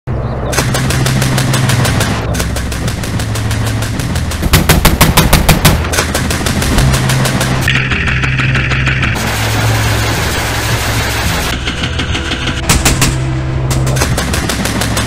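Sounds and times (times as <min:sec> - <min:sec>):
autocannon rapid fire: 0:00.5 - 0:15.0.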